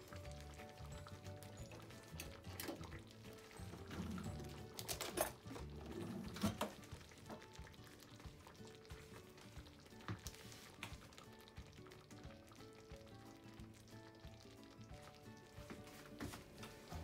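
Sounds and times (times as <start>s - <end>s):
sauce bubbling in a pot: 0.0s - 17.0s
soft background music: 0.0s - 17.0s.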